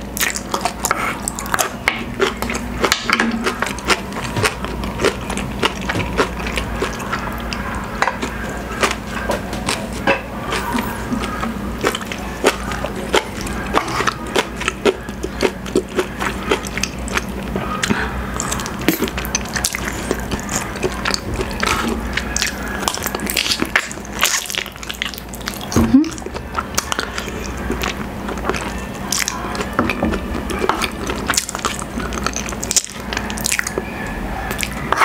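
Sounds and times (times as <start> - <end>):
close-up eating sounds: 0.0 - 35.0.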